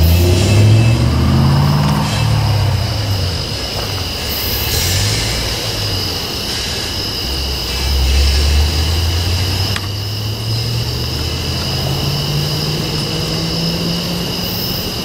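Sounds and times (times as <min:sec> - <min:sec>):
diesel train rolling by: 0:00.0 - 0:15.0.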